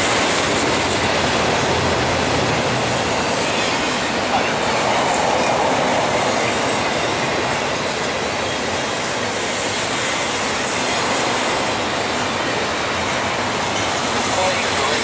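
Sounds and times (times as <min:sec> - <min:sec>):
steel wheels on rail: 0:00.0 - 0:15.0.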